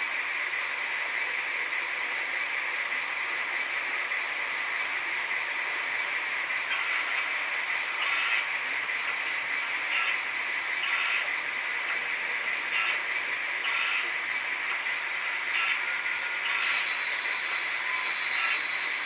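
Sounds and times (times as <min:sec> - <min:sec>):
model trains running on rails: 0:00.0 - 0:19.0.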